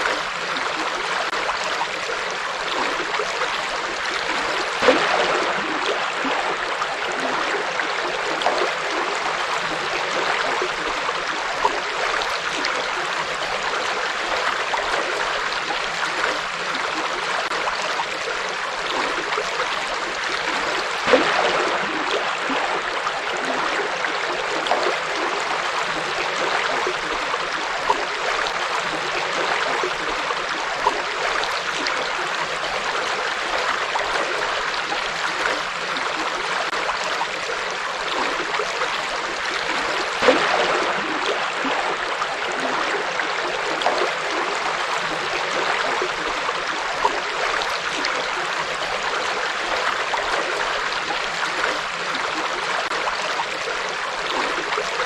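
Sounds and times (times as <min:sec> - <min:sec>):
river water flowing over rocks: 0:00.0 - 0:55.0
small water splashes: 0:00.0 - 0:55.0.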